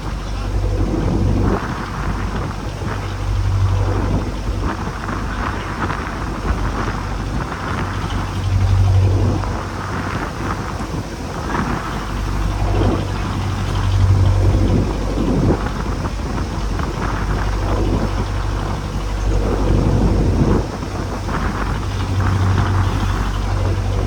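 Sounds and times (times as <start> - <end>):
boat engine humming: 0.0 - 24.0
wind on microphone: 0.0 - 24.0.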